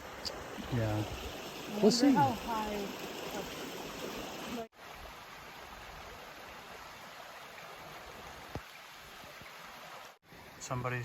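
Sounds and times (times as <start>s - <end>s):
stream rushing: 0.0s - 10.8s.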